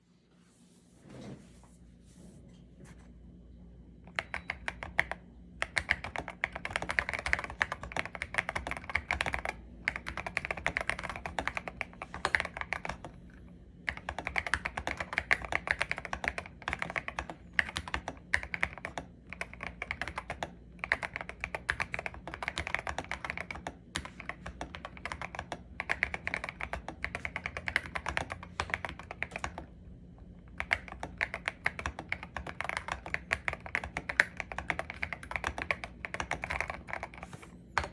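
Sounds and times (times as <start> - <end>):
mechanical keyboard typing: 4.1 - 13.2, 13.8 - 29.7, 30.5 - 37.9.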